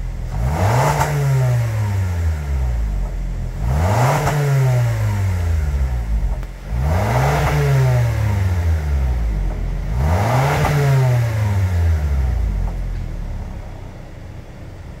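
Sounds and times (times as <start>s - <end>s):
car exhaust revving and idling: 0.0s - 15.0s.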